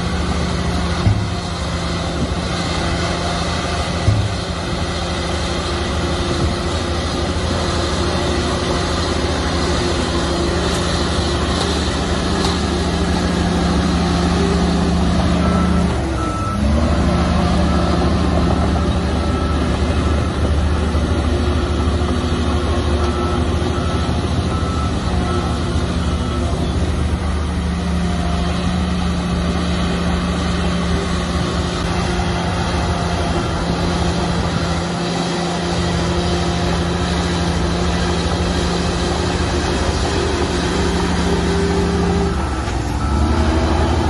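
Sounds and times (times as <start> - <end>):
diesel machinery running: 0.0 - 44.0
reversing alarm beeping: 7.5 - 44.0.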